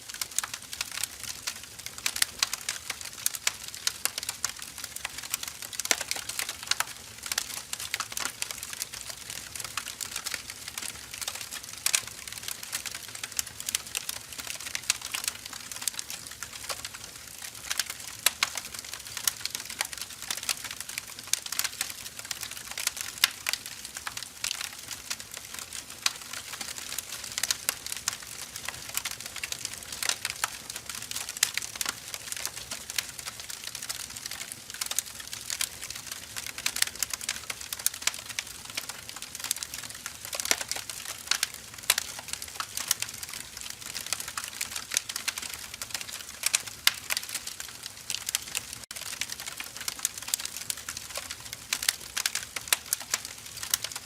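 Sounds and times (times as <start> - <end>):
firewood burning and crackling: 0.0 - 54.0.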